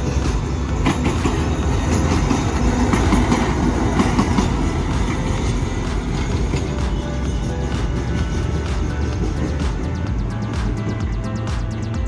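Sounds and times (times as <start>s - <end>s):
wheels clacking over rail joints: 0.0s - 11.8s
diesel locomotive passing: 0.0s - 12.0s.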